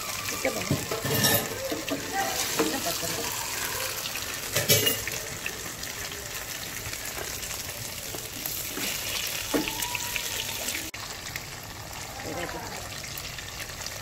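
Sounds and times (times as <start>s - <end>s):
tofu sizzling in hot oil: 0.0s - 14.0s.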